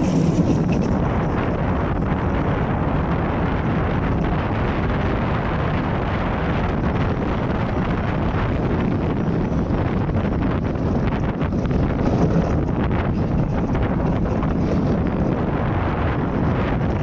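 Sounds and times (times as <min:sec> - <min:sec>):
cart wheels rumbling on pavement: 0:00.0 - 0:17.0
wind buffeting microphone: 0:00.0 - 0:17.0.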